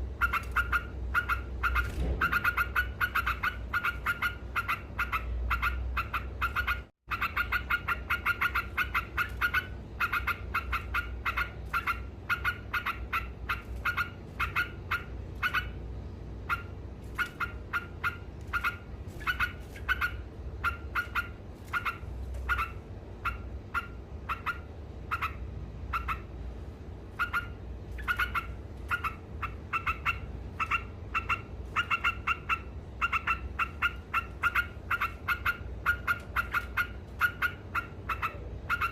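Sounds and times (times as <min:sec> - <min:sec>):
bird chattering: 0:00.0 - 0:26.4, 0:27.1 - 0:38.9
steady low hum: 0:00.0 - 0:38.9.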